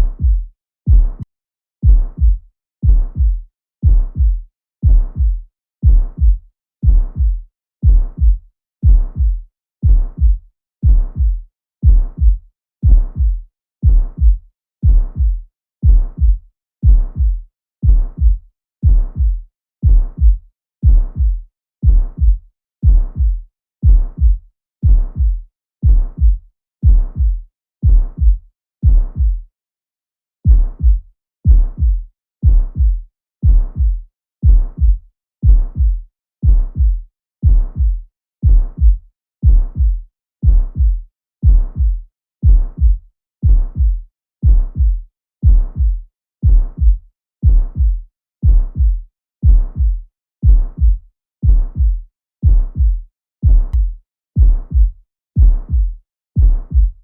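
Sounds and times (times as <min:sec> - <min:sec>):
heartbeat through stethoscope: 0:00.0 - 0:29.5, 0:30.4 - 0:57.0.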